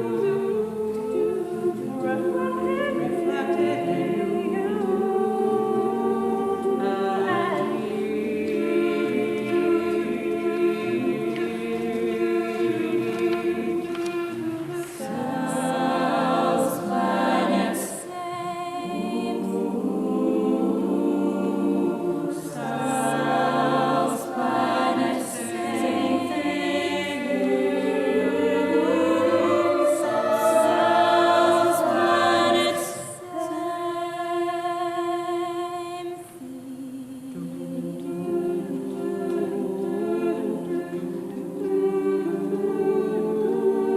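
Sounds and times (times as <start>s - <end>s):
choir singing in harmony: 0.0s - 43.9s.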